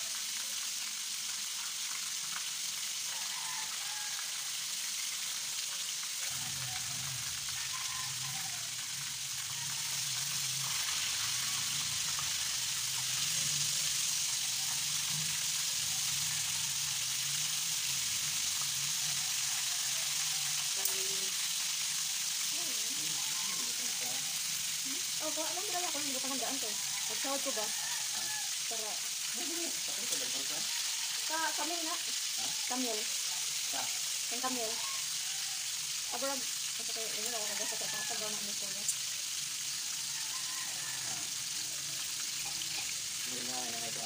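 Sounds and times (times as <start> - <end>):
chicken deep-frying in oil: 0.0 - 44.0.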